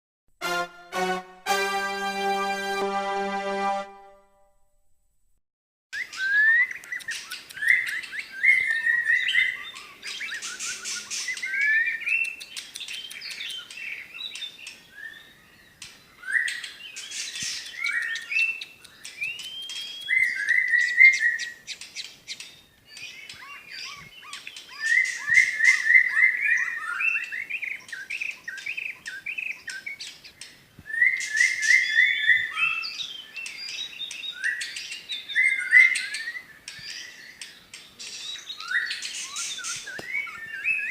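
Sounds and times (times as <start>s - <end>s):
songbird singing whistled song: 6.0s - 40.9s.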